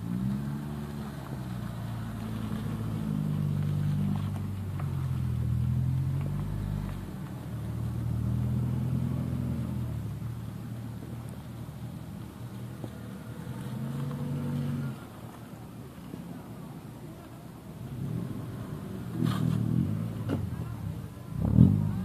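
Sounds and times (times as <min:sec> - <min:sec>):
car engine revving: 0:00.0 - 0:15.3, 0:17.8 - 0:22.0.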